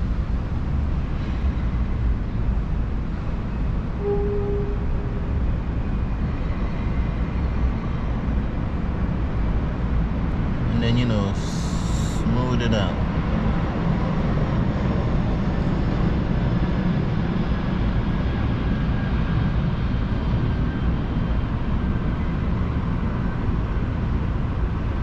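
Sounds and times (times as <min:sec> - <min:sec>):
low rumble of background noise: 0:00.0 - 0:25.0.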